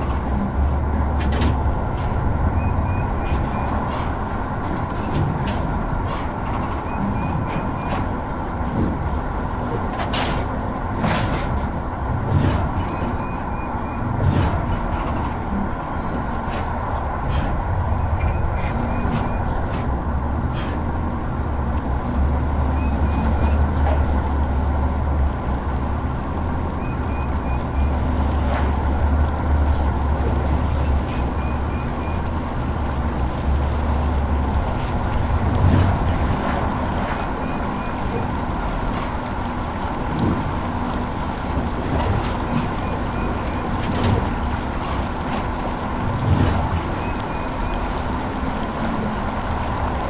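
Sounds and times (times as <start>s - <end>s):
truck engine and road rumble: 0.0s - 50.0s.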